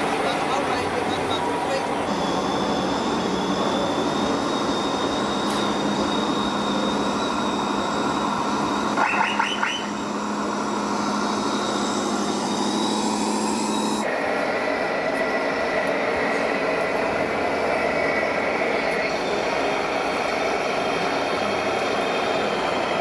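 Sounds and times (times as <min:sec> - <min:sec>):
model truck motor whine: 0:00.0 - 0:23.0.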